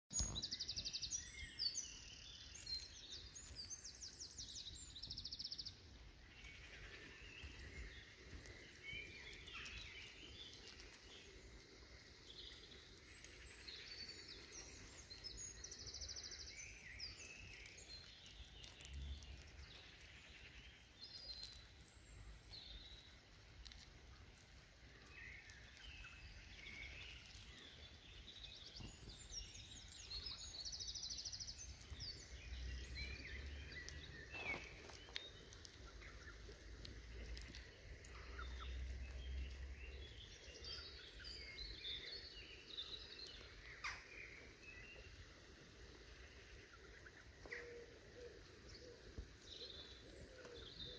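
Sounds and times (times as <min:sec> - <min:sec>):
soft bird chirps: 0:00.1 - 0:50.9.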